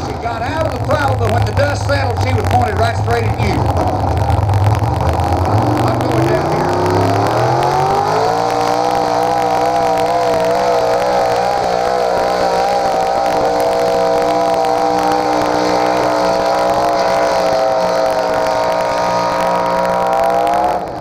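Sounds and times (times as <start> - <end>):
truck engine at high revs: 0.0 - 21.0.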